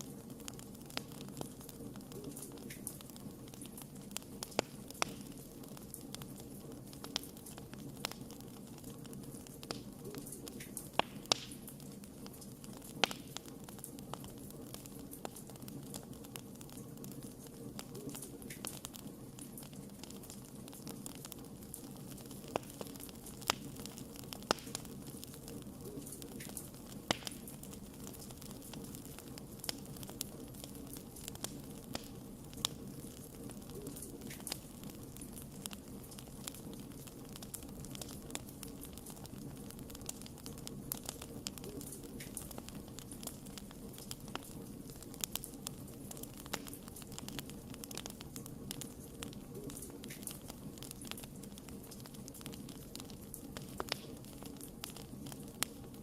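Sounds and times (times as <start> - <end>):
burning wood crackling and popping: 0.0 - 56.0
wood fire rumbling: 0.0 - 56.0.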